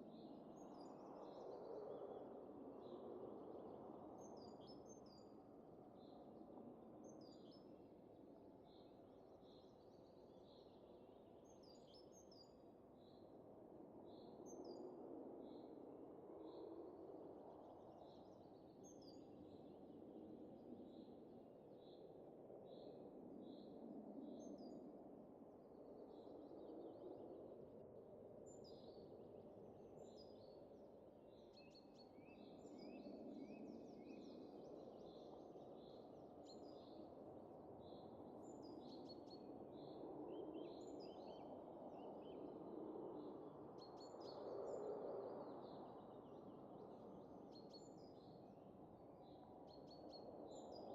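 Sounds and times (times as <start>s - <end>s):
soft wind: 0.0s - 50.9s.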